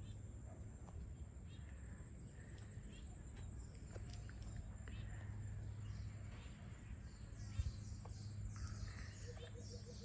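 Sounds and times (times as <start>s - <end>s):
faint birds chirping: 0.0s - 10.0s
low rumble of wind or traffic: 0.0s - 10.0s.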